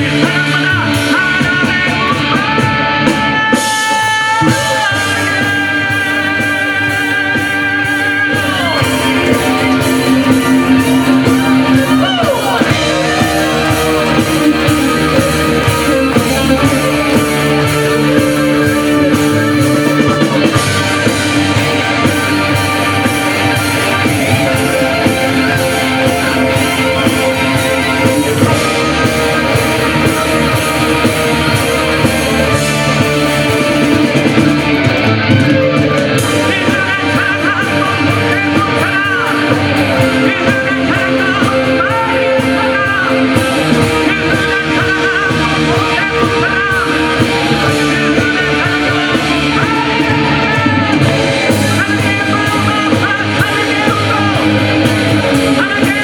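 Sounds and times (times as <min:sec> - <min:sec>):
bass guitar: 0:00.0 - 0:56.0
drum kit: 0:00.0 - 0:56.0
electric guitar with pitch bends: 0:00.0 - 0:56.0.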